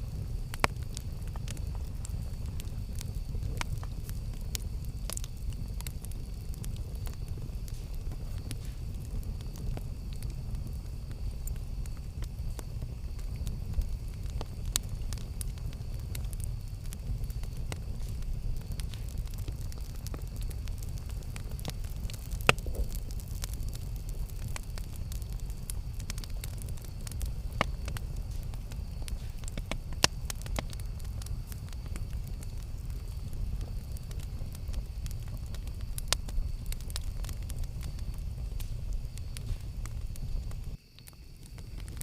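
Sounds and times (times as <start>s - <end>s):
campfire rumble: 0.0s - 42.0s
fire crackles and pops: 0.0s - 42.0s.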